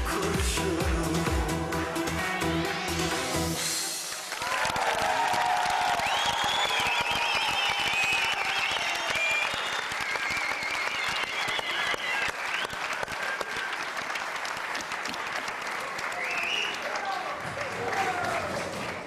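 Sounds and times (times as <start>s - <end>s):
audience applauding and cheering: 0.0s - 19.0s.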